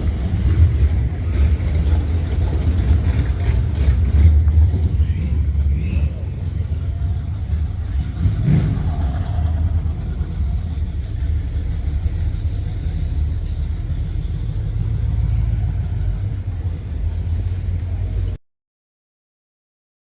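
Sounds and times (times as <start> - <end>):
car engine rumbling: 0.0 - 18.4.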